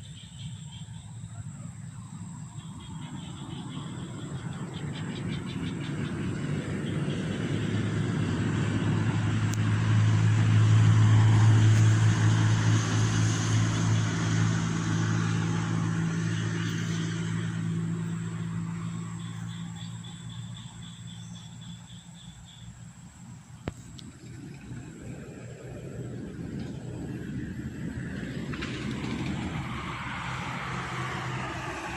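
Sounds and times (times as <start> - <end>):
vehicle engine passing by: 0.0 - 31.9.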